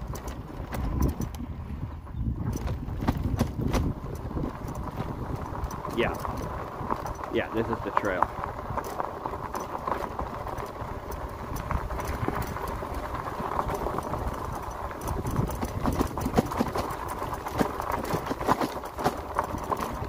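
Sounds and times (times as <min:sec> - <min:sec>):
fat bike tyres crunching gravel: 0:00.0 - 0:20.0
stones clicking and knocking: 0:02.5 - 0:20.0.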